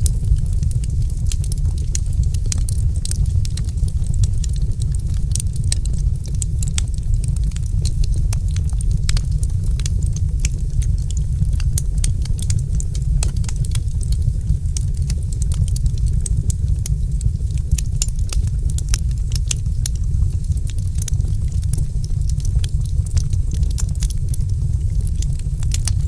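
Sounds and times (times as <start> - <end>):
low rumble: 0.0 - 26.0
wood fire crackling: 0.0 - 26.0.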